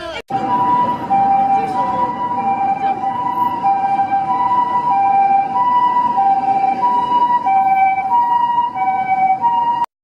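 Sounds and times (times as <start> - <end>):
road traffic noise: 0.0 - 9.9
two-tone ambulance siren: 0.3 - 9.9.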